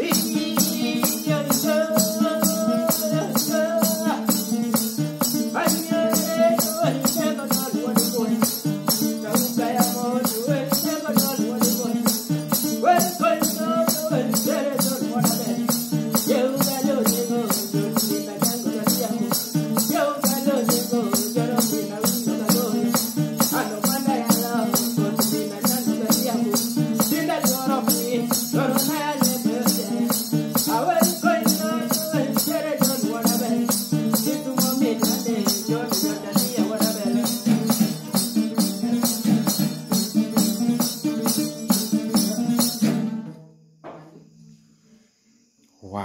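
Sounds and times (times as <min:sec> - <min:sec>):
rattling foot beat: 0:00.0 - 0:42.8
man singing: 0:00.0 - 0:43.3.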